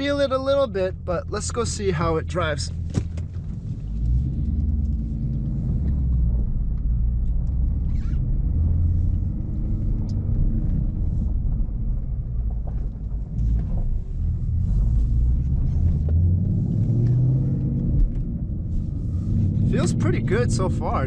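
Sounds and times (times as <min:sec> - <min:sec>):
car engine from inside cabin: 0:00.0 - 0:21.0.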